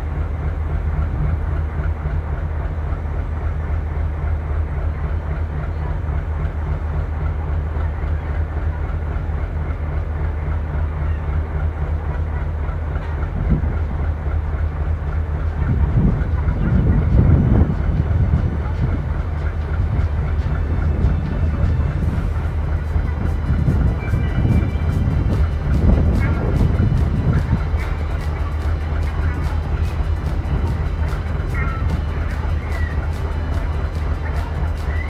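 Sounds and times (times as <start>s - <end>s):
diesel locomotive engine idling: 0.0s - 35.0s.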